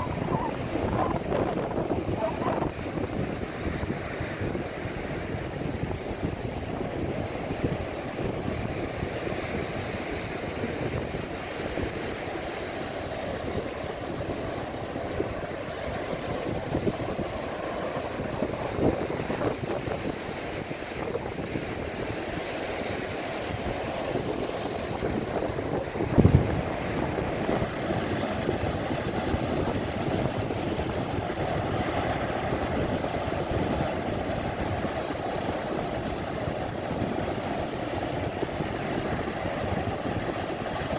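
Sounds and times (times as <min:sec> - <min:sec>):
waves breaking on a beach: 0:00.0 - 0:40.9
wind on the microphone: 0:00.0 - 0:40.9.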